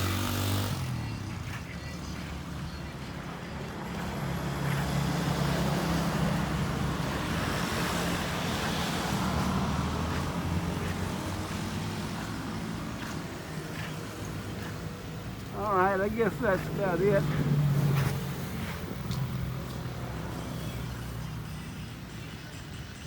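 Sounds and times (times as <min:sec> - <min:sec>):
vehicle passing on highway: 0:00.0 - 0:21.9.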